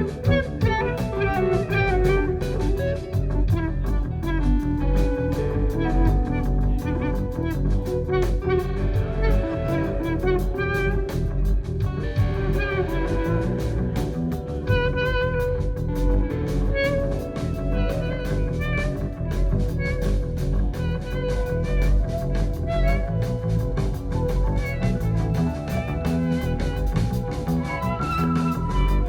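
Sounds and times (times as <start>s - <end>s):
rock band playing: 0.0s - 29.0s
wavering guitar lead notes: 0.0s - 29.0s.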